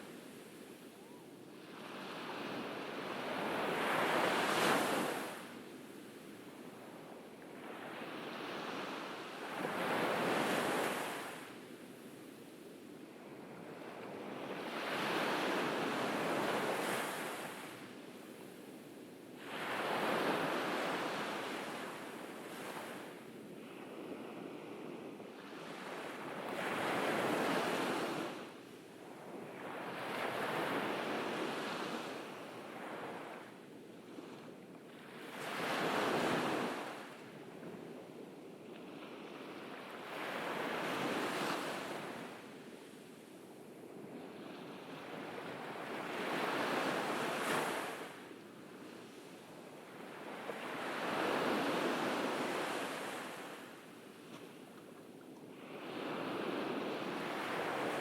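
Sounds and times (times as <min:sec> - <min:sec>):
ocean waves breaking on beach: 0:00.0 - 0:05.6, 0:13.2 - 0:37.9, 0:38.8 - 0:54.8, 0:55.4 - 0:58.0.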